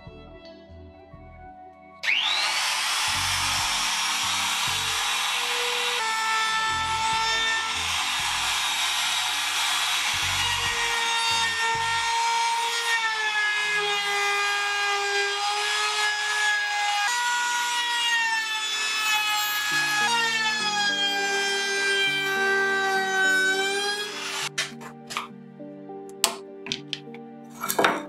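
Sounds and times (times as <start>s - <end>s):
router motor whine: 2.0s - 24.7s
router bit cutting wood: 2.0s - 25.3s.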